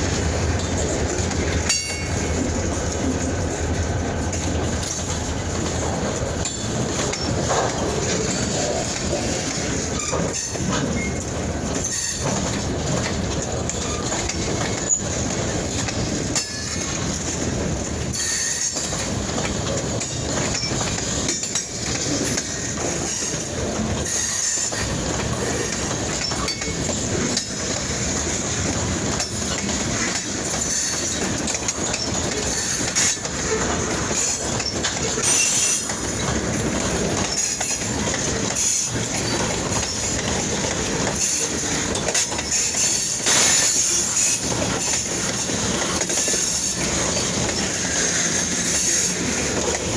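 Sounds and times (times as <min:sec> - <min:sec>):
train wheels clattering over rails: 0:00.0 - 0:49.9.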